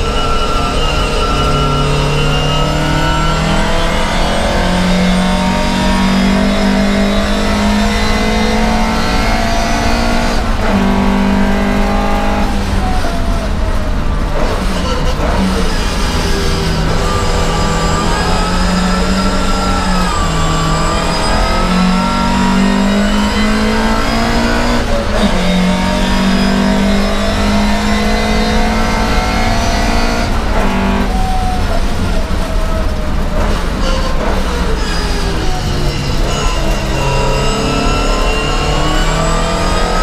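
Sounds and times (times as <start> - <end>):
gear changes: 0.0 - 40.0
racing car engine under full load: 0.0 - 40.0.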